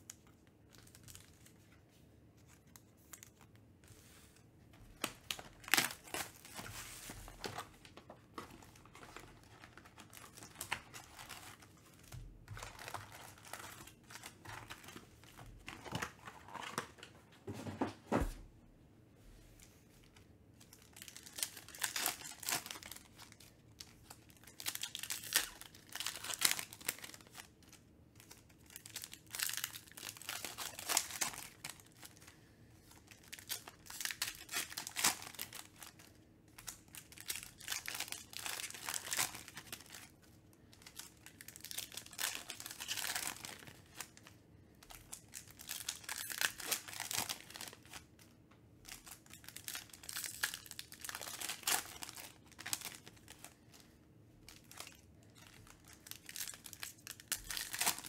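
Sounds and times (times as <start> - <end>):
foil wrappers crinkling and tearing: 4.9 - 17.1, 20.6 - 58.0.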